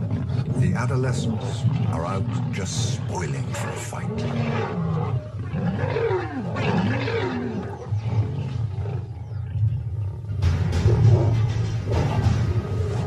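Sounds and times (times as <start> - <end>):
lions snarling and growling: 0.0 - 13.0.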